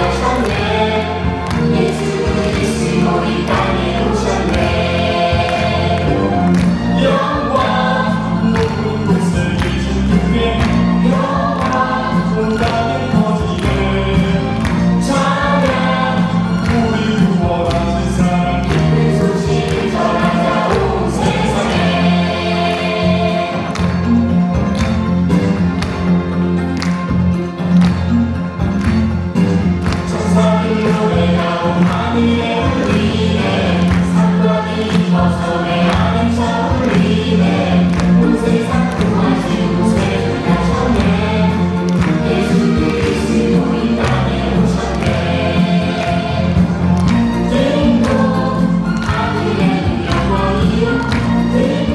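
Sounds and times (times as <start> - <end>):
choir singing in chorus: 0.0 - 51.9
instrumental accompaniment with beat: 0.0 - 51.9
steady bass line: 0.0 - 51.9.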